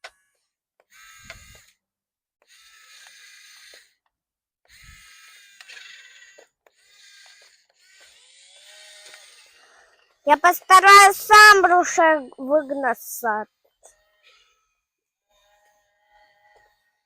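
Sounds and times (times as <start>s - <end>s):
toy motors whirring: 0.8s - 1.8s, 2.4s - 17.0s.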